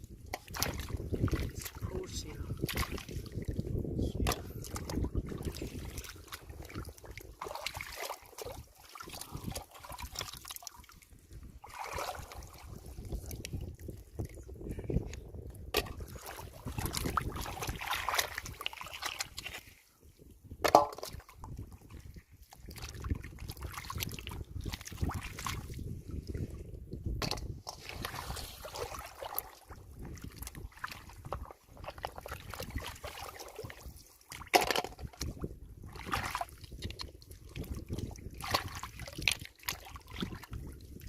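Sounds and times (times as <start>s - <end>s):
shallow water sloshing and splashing: 0.0s - 41.0s.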